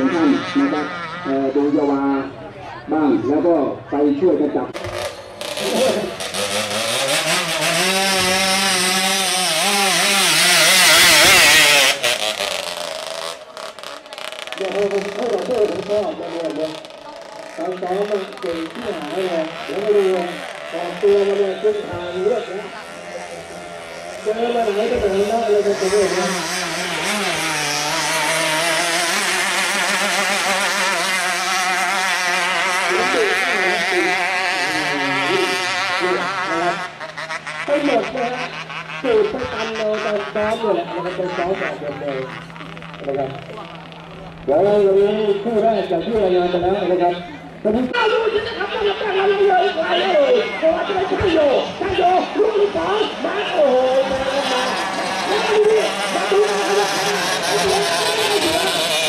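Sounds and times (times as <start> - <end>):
boat engine running flat out: 4.8 - 59.0.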